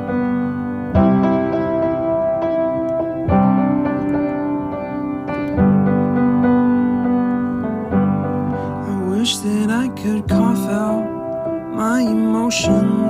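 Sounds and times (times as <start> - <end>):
piano playing sustained chords: 0.0 - 13.0.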